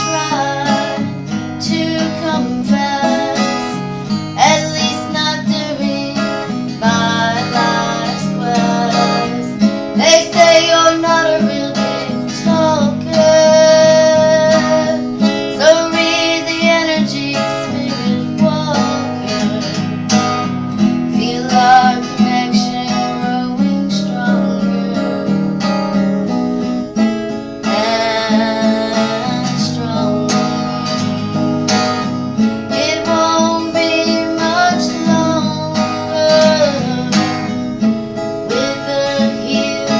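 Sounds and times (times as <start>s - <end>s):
person singing: 0.0s - 19.9s, 20.8s - 27.0s, 27.6s - 32.1s, 32.7s - 37.9s, 38.5s - 39.9s
strummed acoustic guitar: 0.0s - 39.9s.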